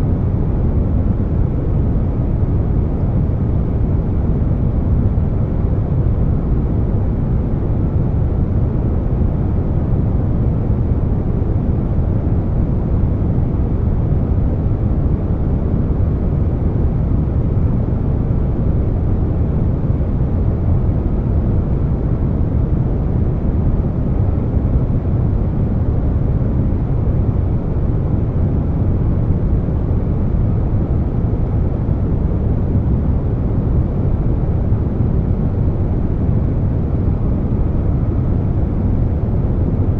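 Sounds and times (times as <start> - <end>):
air conditioner noise: 0.0 - 39.9
deep brown noise: 0.0 - 39.9.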